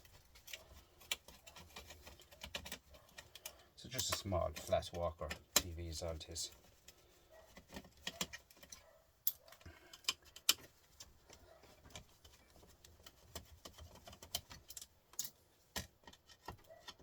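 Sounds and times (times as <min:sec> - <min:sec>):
plastic and metal parts clicking: 0:00.0 - 0:17.0.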